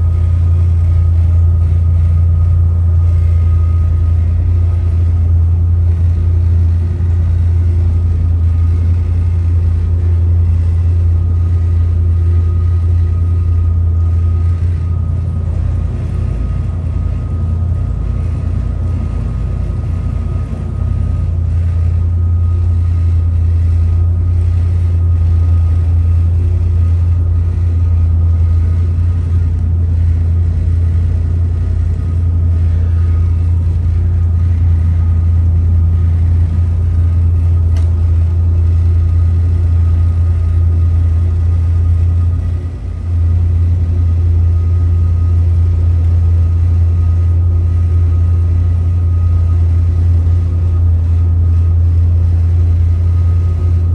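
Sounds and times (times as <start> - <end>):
boat engines droning: 0.0 - 53.9
faint steady whine: 0.0 - 53.9.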